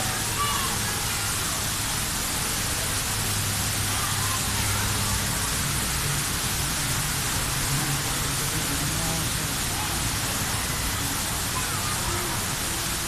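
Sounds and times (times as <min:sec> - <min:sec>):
steady hissing noise: 0:00.0 - 0:13.0.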